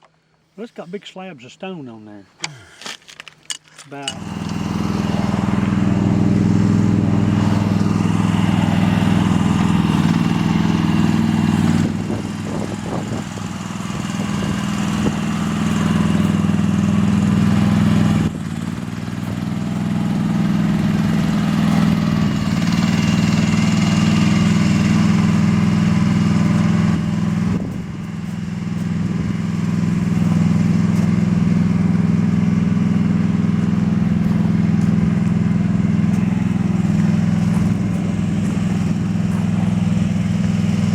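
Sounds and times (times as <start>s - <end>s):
excavator diesel engine running: 3.9s - 40.9s.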